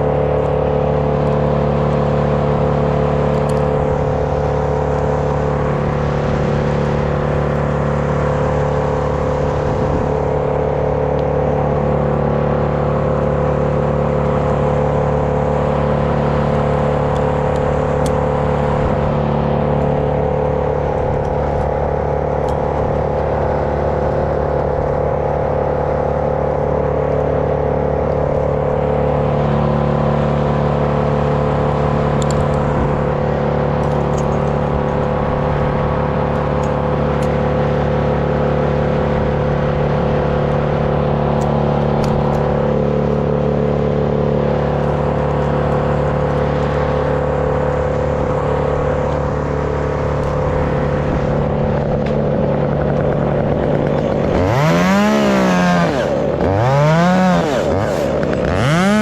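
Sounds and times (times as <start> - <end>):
chainsaw idling: 0.0 - 59.0.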